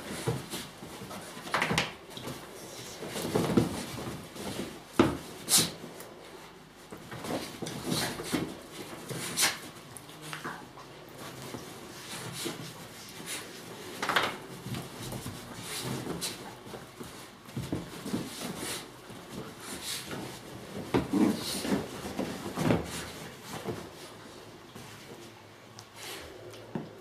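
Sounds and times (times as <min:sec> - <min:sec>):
dogs scuffling on cushions: 0:00.0 - 0:26.9.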